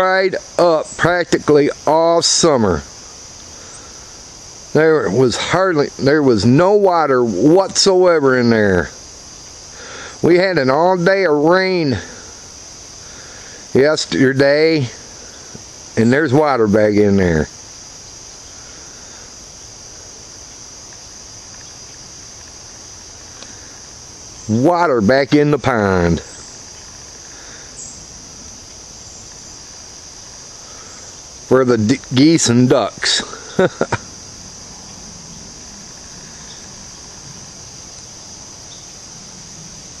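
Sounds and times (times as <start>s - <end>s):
crickets trilling: 0.0s - 40.0s
insects chirping: 0.0s - 40.0s.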